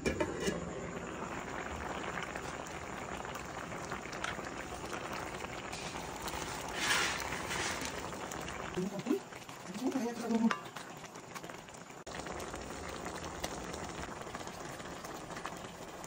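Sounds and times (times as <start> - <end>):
liquid boiling in a wok: 0.0 - 16.0.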